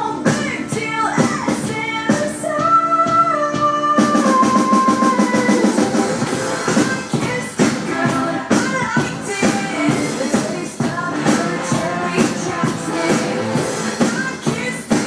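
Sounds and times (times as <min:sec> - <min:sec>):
electronic drum kit beat: 0:00.0 - 0:15.0
woman singing pop song: 0:00.0 - 0:15.0.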